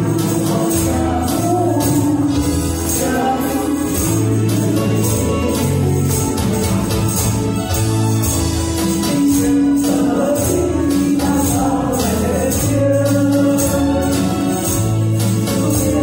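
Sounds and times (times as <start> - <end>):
tambourines and shakers jingling: 0.0 - 16.0.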